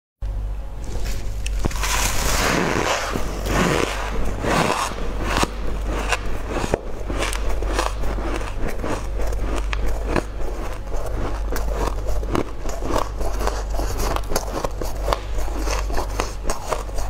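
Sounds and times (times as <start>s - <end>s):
low hum: 0.2s - 17.0s
crunching food being chewed: 1.0s - 17.0s.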